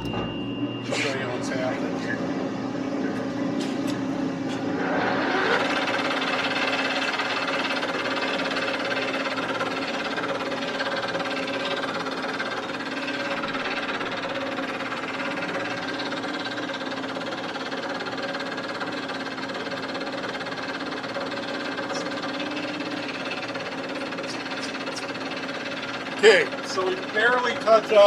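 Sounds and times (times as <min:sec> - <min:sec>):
metal lathe humming: 0:00.0 - 0:28.0.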